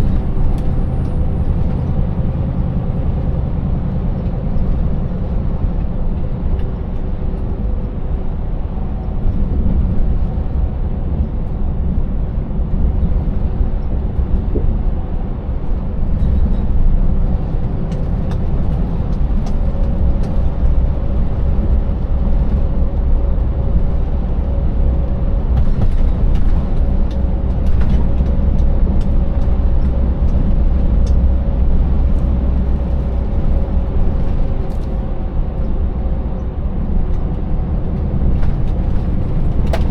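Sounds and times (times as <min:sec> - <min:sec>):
truck engine rumbling: 0:00.0 - 0:39.9
tyres on rough road: 0:00.0 - 0:39.9.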